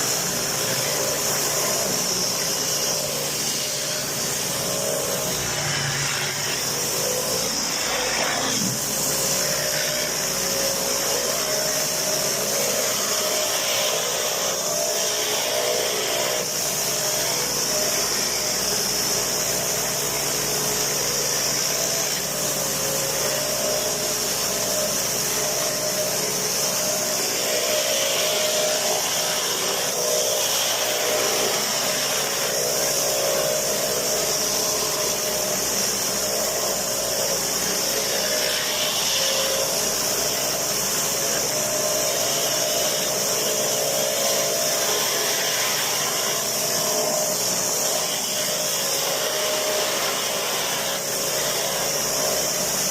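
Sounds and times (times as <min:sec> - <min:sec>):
pressure washer hum: 0:00.0 - 0:52.9
water jet hissing on concrete: 0:00.0 - 0:52.9.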